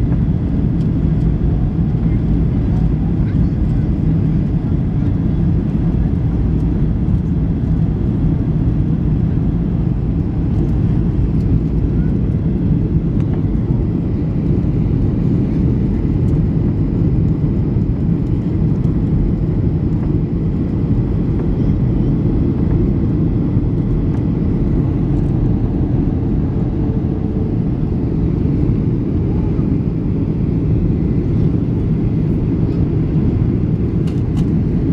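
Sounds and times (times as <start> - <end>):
airplane cabin engine roar: 0.0 - 34.9.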